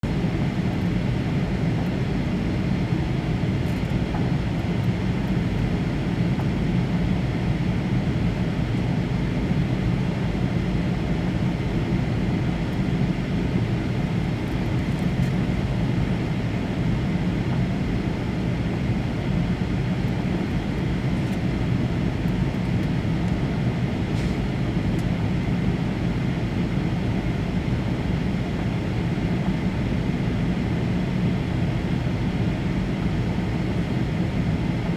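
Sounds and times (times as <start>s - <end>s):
low drone of jet engines: 0.1s - 34.9s.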